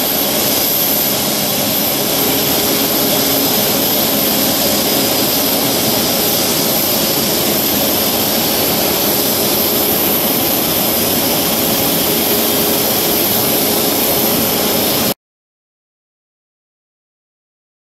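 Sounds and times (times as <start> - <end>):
jet engines running: 0.0 - 15.2.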